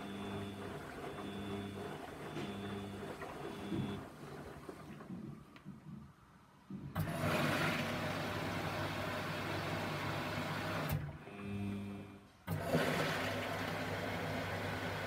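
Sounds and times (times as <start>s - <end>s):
water rushing into washing machine: 0.0s - 5.5s, 7.0s - 15.0s.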